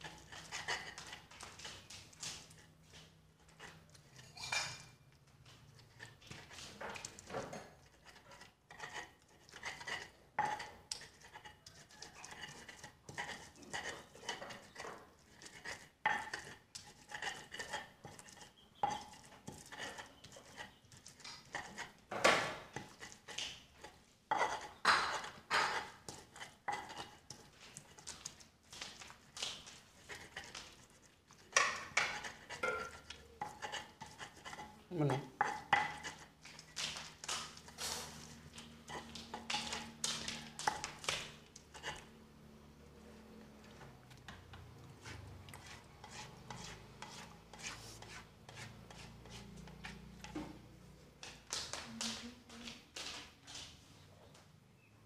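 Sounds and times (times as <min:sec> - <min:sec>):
stone pestle grinding in mortar: 0:00.0 - 0:04.6, 0:05.4 - 0:42.2, 0:43.8 - 0:50.4.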